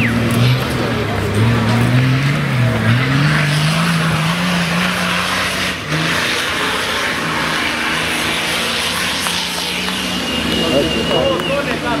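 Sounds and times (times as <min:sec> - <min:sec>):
off-road vehicle engine under load: 0:00.0 - 0:12.0.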